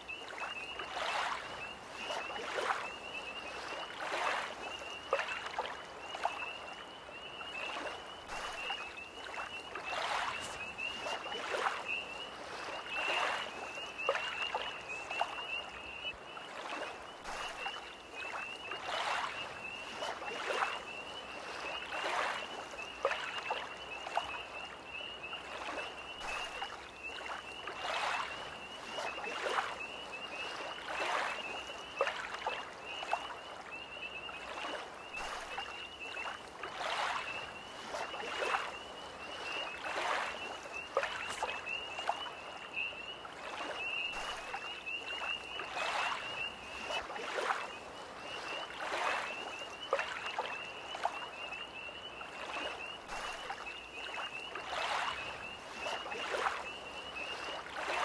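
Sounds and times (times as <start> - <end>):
tree frogs trilling: 0.0 - 58.0
waves lapping at shore: 0.0 - 58.0.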